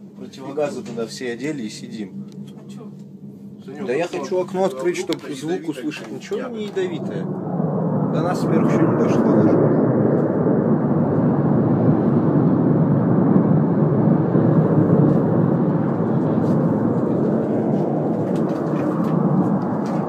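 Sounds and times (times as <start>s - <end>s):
gas fire rushing: 0.3s - 20.0s.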